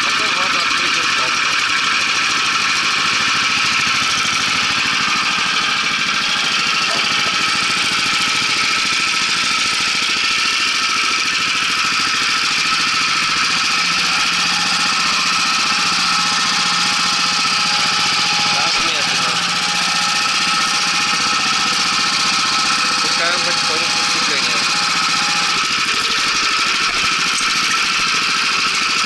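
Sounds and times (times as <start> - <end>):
small petrol engine running: 0.0 - 29.0.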